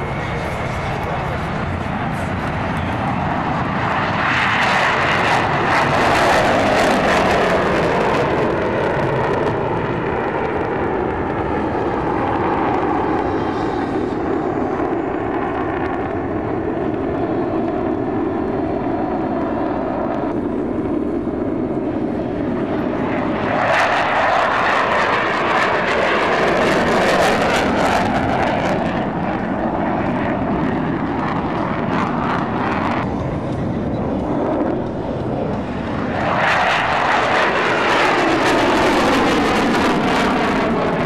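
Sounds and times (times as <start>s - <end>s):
jet engines flying overhead: 0.0s - 41.0s.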